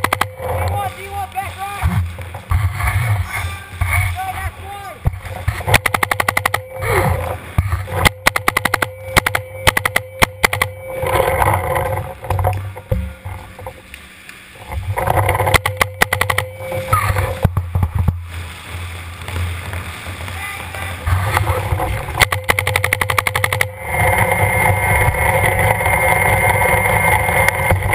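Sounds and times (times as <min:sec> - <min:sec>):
low rumbling handling noise: 0:00.0 - 0:27.9.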